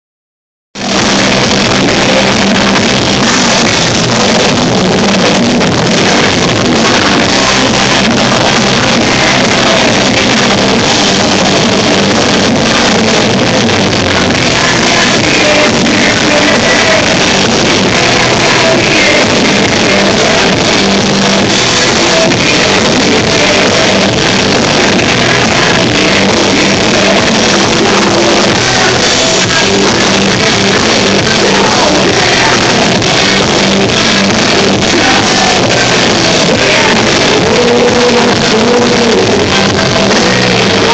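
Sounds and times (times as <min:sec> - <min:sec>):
person singing: 0:00.8 - 0:40.9
rock band playing live: 0:00.8 - 0:40.9.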